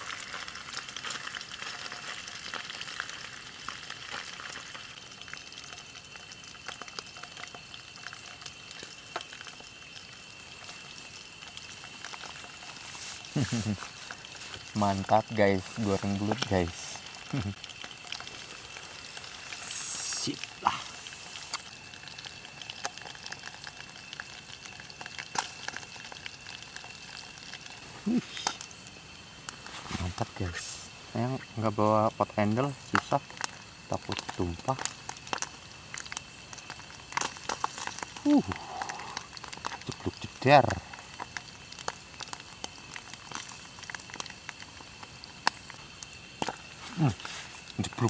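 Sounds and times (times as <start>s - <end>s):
eel frying in hot oil: 0.0s - 48.0s
oil popping and crackling: 0.0s - 48.0s.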